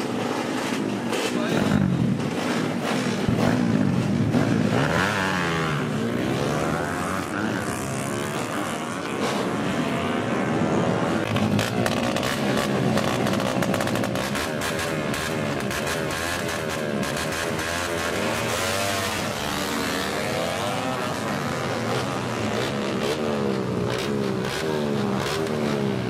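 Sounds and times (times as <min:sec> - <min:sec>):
motorcycles revving and accelerating: 0:00.0 - 0:26.0.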